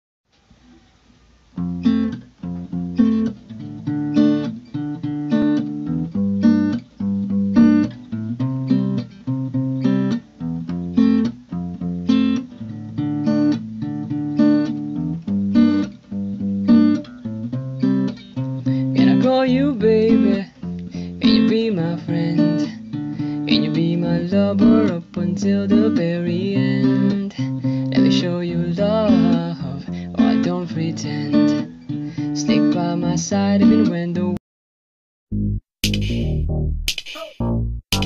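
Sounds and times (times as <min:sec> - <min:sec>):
acoustic guitar strumming: 0:01.6 - 0:34.3.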